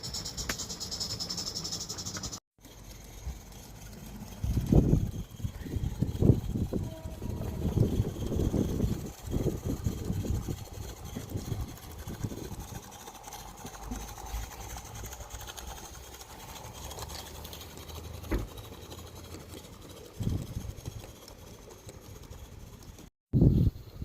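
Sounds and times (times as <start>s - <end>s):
steam locomotive exhaust beats: 0.0s - 23.0s.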